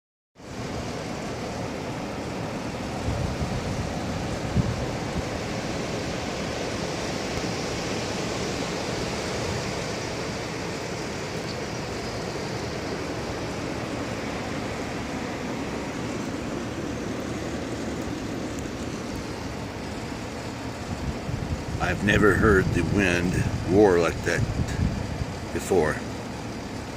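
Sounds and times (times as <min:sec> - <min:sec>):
snowstorm wind roaring: 0:00.4 - 0:26.9.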